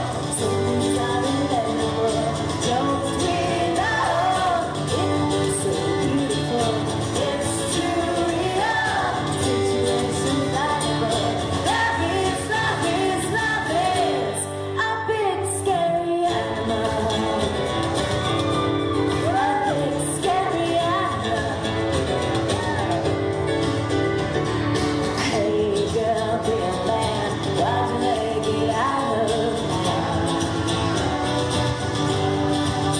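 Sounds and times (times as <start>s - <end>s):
woman singing: 0.0s - 17.9s, 19.2s - 23.0s, 25.2s - 30.8s
acoustic accompaniment: 0.0s - 32.9s.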